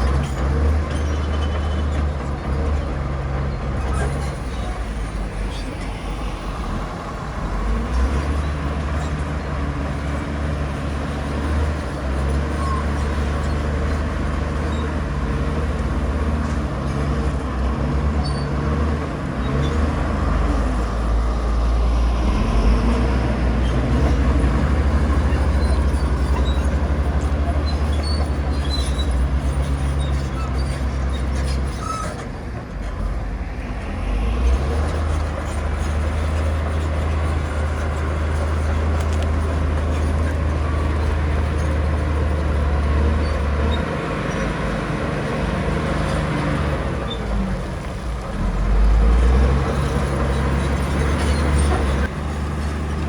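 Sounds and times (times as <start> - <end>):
diesel engines droning: 0.0 - 53.0.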